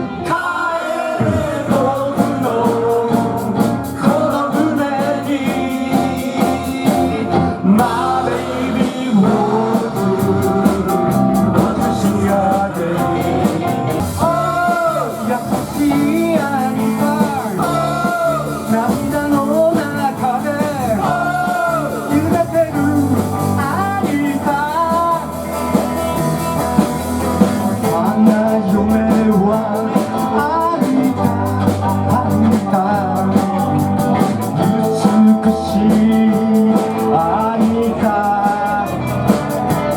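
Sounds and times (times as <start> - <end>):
live rock band playing: 0.0 - 0.4, 1.2 - 39.9
electric lead guitar melody: 1.3 - 39.9.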